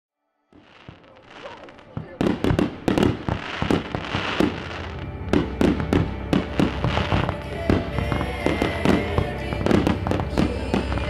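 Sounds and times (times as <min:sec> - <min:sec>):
fireworks bangs: 0:00.6 - 0:11.0.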